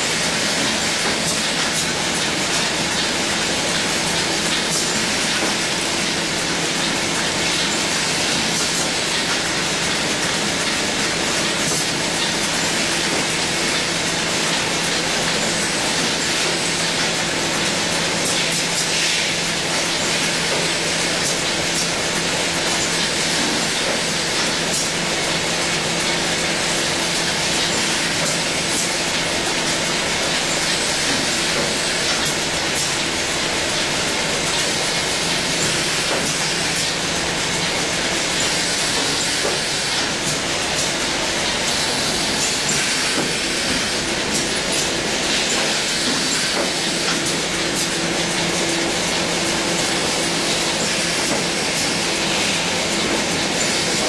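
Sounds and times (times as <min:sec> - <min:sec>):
machine clatter and hiss: 0:00.0 - 0:54.0.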